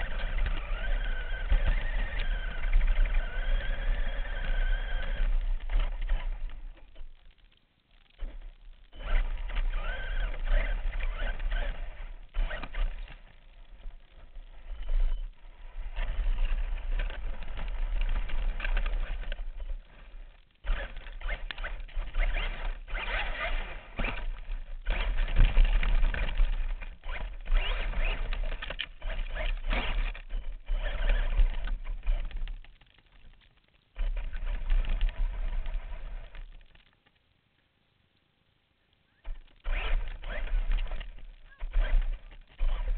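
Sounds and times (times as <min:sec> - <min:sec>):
toy truck motor and gear whine: 0:00.0 - 0:07.4, 0:08.0 - 0:32.7, 0:34.0 - 0:36.8, 0:39.2 - 0:42.9.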